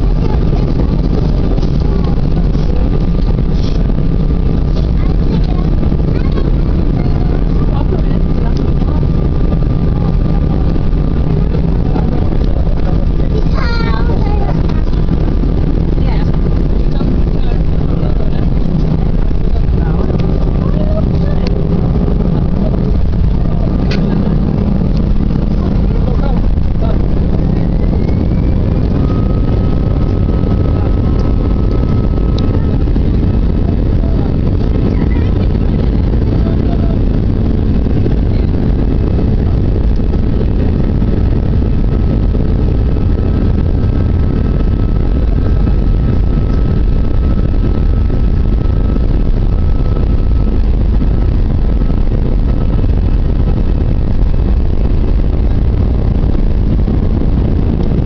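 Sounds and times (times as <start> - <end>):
faint engine whine: 0.0 - 58.0
jet engine rumble in cabin: 0.0 - 58.0.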